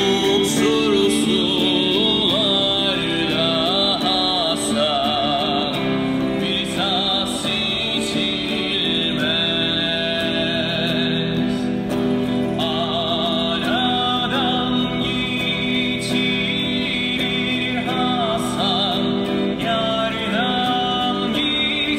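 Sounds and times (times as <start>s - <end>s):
electric guitar: 0.0s - 21.9s
man singing into microphone: 0.0s - 21.9s.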